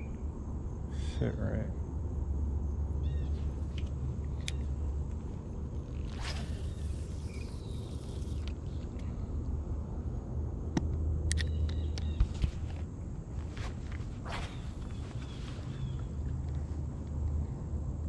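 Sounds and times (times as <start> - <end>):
steady low rumble: 0.2 - 18.0.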